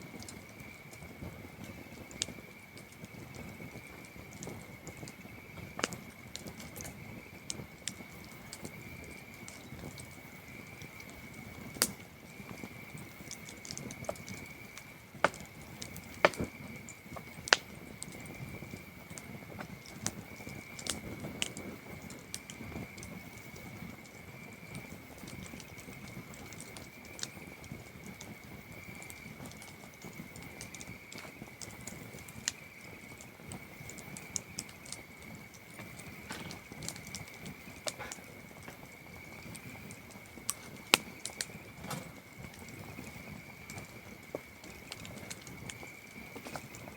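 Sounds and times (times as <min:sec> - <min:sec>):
burning wood popping: 0:00.0 - 0:46.9
campfire crackling: 0:00.0 - 0:46.9
crickets chirring: 0:00.0 - 0:46.9.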